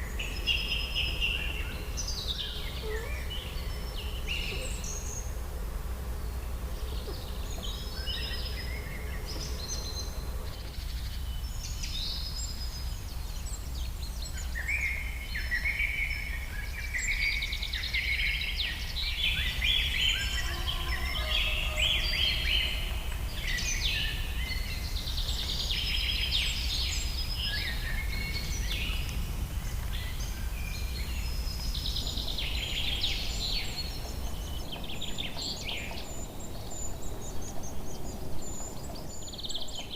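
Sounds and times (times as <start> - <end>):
steady low rumble: 0.0 - 15.2, 18.4 - 39.2
birds chirping and trilling: 0.0 - 39.9.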